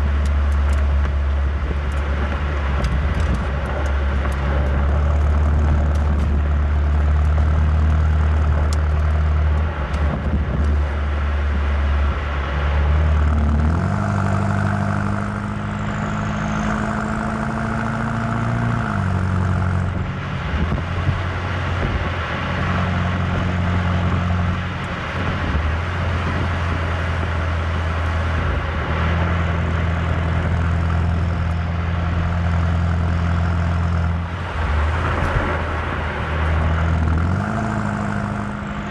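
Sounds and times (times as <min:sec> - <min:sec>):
car engine revving while driving: 0:00.0 - 0:38.9.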